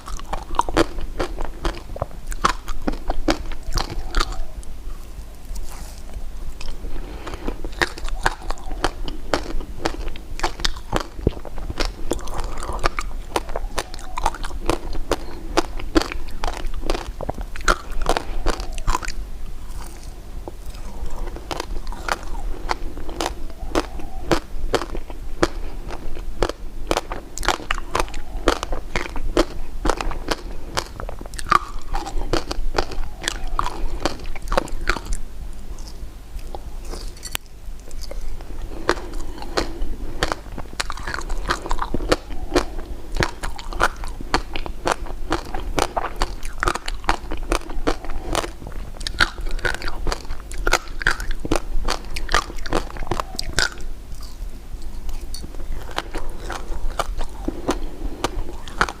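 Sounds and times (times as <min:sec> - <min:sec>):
chewing: 0:00.0 - 0:59.0
crunching candy: 0:00.0 - 0:59.0.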